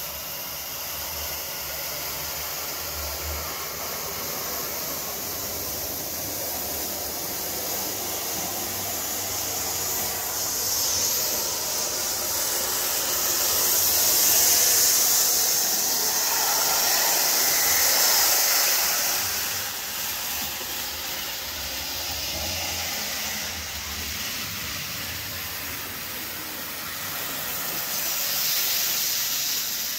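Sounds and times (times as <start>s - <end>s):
model train whirring on track: 0.0s - 29.9s.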